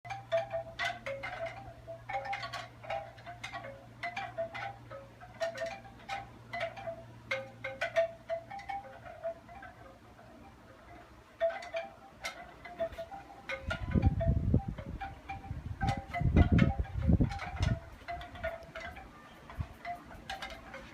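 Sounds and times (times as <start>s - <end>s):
wind chimes ringing: 0.1s - 20.9s.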